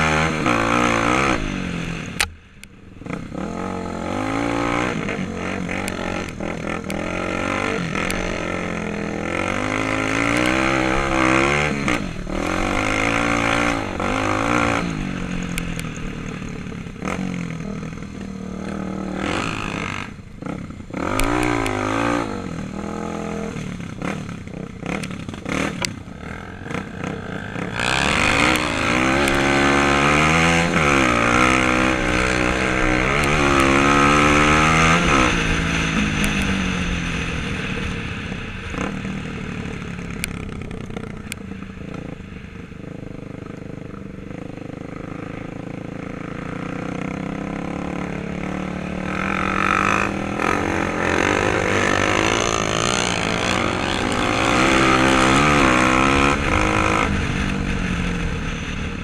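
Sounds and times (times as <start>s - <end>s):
dirt bike engine revving: 0.0s - 2.3s, 3.0s - 42.2s, 42.9s - 59.0s.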